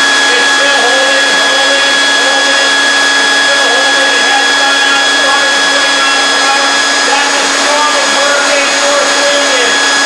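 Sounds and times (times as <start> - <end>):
leaf blower running: 0.0 - 10.0.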